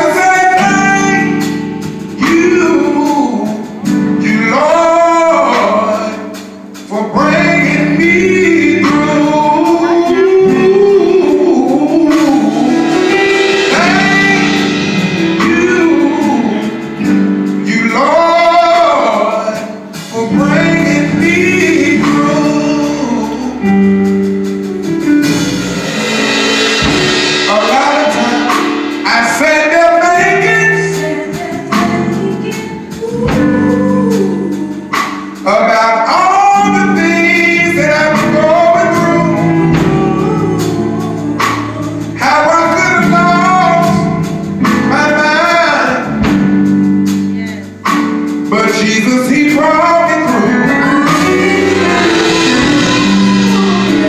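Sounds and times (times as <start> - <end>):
man and woman singing gospel: 0.0 - 54.0.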